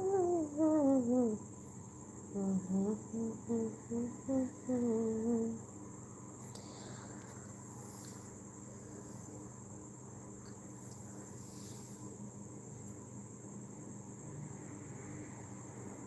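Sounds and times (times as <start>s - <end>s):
crickets trilling: 0.0s - 16.0s
faint low hum: 0.0s - 16.0s.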